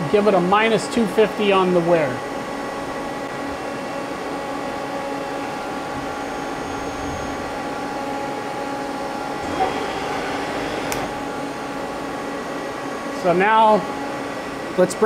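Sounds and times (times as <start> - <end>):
lathe machine hum: 1.1 - 14.9.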